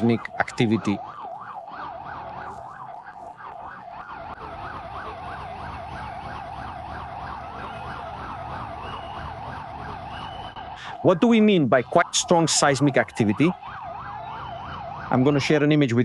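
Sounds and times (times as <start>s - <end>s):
slow wailing siren: 0.0s - 15.9s
fast yelping siren: 0.0s - 16.0s.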